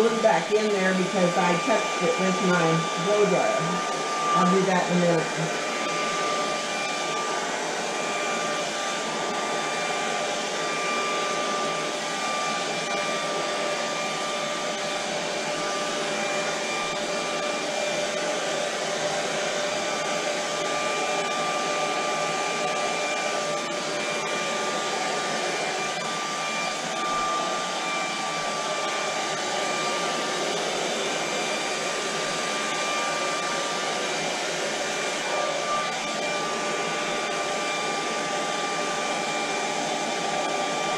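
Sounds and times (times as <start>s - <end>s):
blow dryer running: 0.0s - 40.9s.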